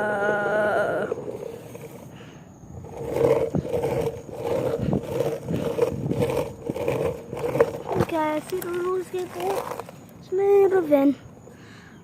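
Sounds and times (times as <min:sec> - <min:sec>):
skateboard wheels rolling on pavement: 0:00.0 - 0:11.5.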